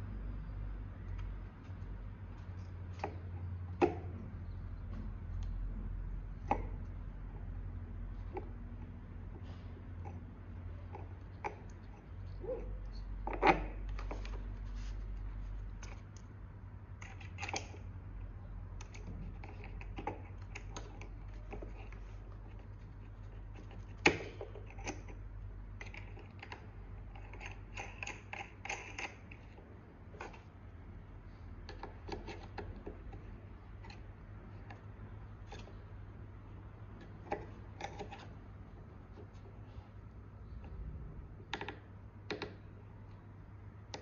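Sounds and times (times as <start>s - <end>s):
small clicks and scratches: 0.5s - 44.0s.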